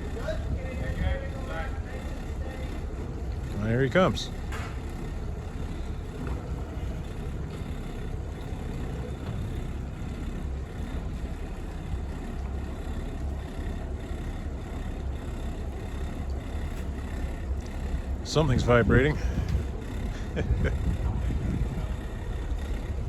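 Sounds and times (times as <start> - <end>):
boat diesel engines rumbling: 0.0 - 23.0.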